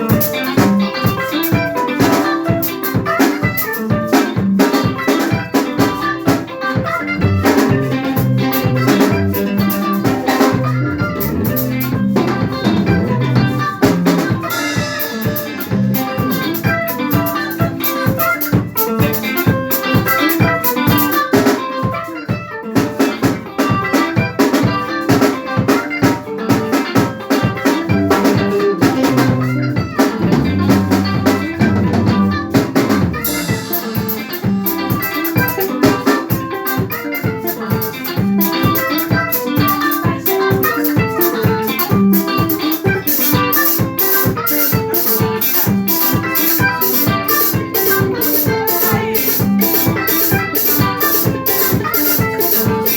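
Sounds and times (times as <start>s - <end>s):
drum kit beat: 0.0s - 52.9s
live band music: 0.0s - 52.9s.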